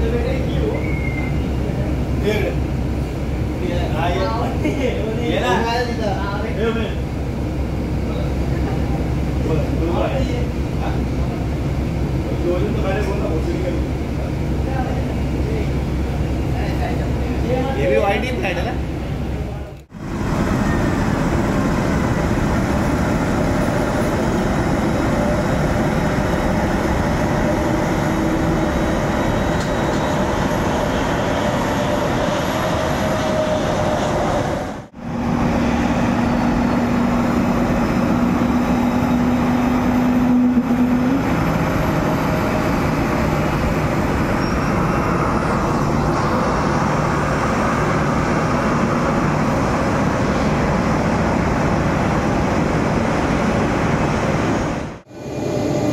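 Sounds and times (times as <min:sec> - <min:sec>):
jet engine rumble and whine: 0:00.0 - 0:55.9.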